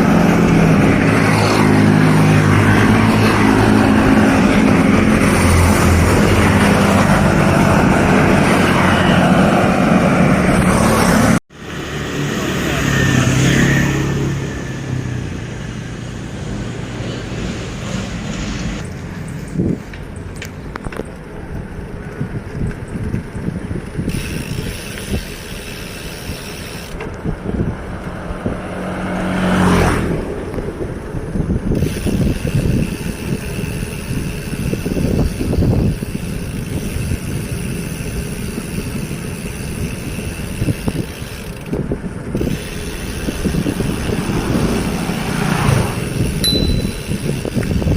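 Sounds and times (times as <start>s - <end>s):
rushing wind or road noise: 0.0s - 47.9s
vehicle engine hum: 0.0s - 47.9s.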